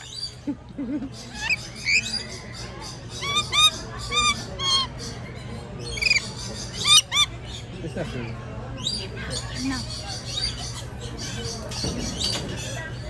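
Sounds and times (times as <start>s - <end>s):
lorikeets screeching: 0.0s - 0.4s, 1.1s - 7.8s, 8.8s - 12.4s.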